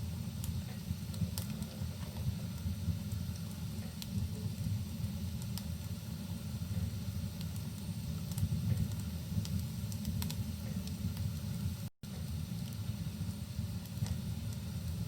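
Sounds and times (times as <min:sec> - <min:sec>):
fire crackling: 0:00.0 - 0:15.0
fire popping: 0:00.0 - 0:15.0.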